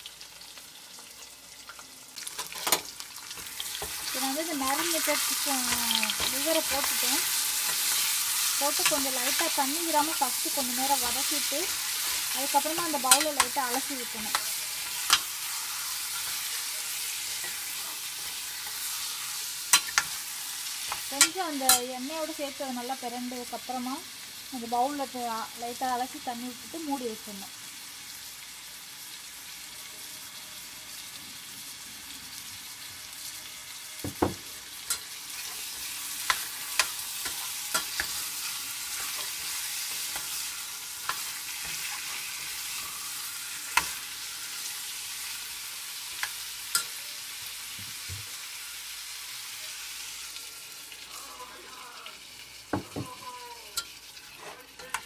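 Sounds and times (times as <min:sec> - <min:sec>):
liver sizzling in oil: 0:00.0 - 0:55.0.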